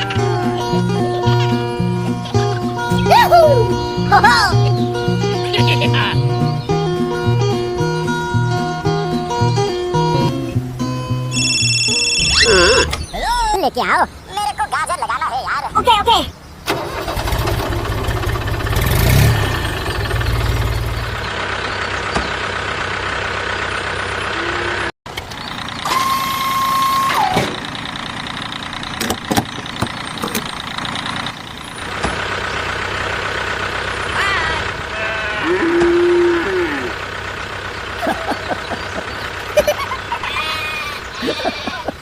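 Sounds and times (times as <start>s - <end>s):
vehicle engine running: 0.0s - 13.1s, 16.3s - 42.0s.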